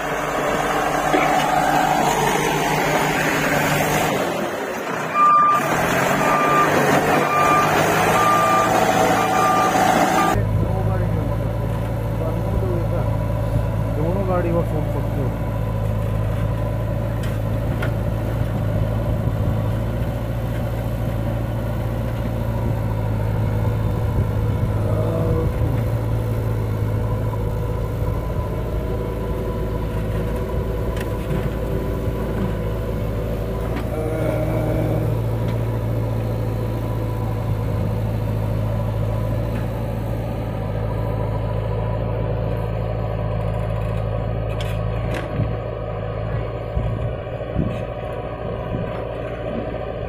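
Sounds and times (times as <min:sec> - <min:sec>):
backhoe diesel engine running: 0:00.0 - 0:50.0.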